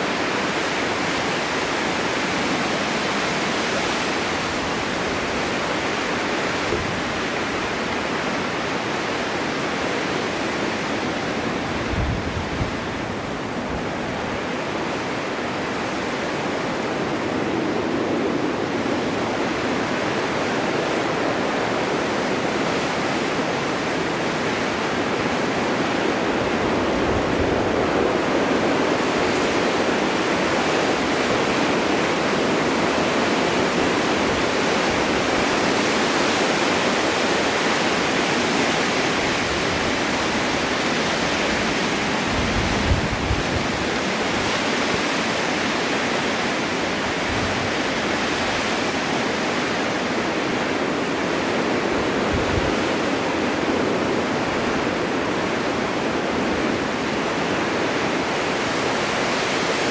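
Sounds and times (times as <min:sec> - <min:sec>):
wind blowing through forest: 0:00.0 - 0:59.9
wind gusts buffeting microphone: 0:00.0 - 0:59.9.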